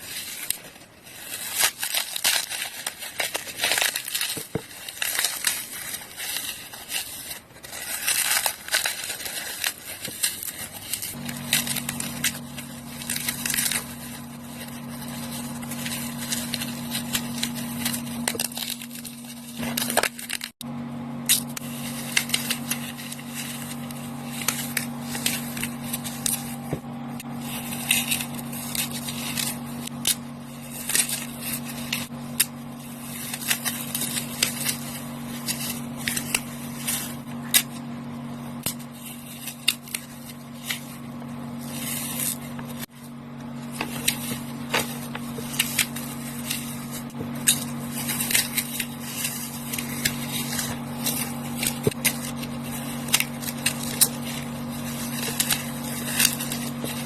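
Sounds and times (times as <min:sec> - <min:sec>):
floral foam crunching: 0:00.0 - 0:57.0
steady low hum: 0:00.0 - 0:57.0.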